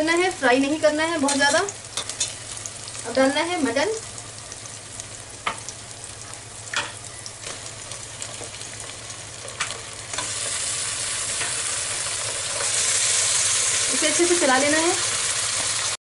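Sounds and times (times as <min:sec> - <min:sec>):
oil sizzling in a pot: 0:00.0 - 0:16.0.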